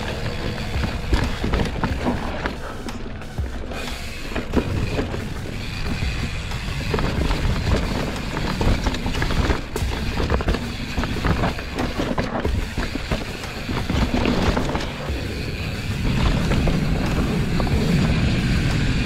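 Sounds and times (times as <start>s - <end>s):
bike rattles and knocks: 0.0s - 19.0s
tyres rumbling on dirt: 0.0s - 19.0s.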